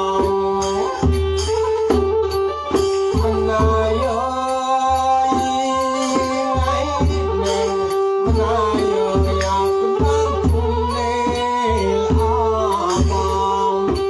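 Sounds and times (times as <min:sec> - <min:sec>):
bowed fiddle melody: 0:00.0 - 0:14.0
low barrel drum beats: 0:00.0 - 0:14.0.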